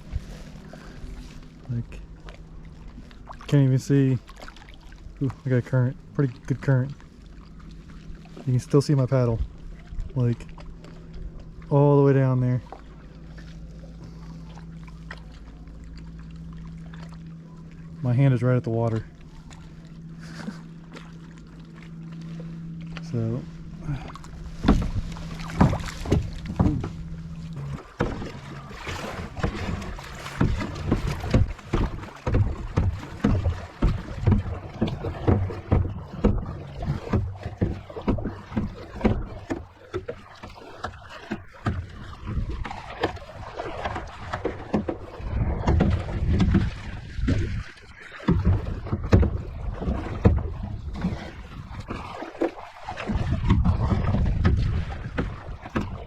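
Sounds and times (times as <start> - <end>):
paddle strokes splashing: 0.0 - 56.0
water slapping hull: 0.0 - 56.0.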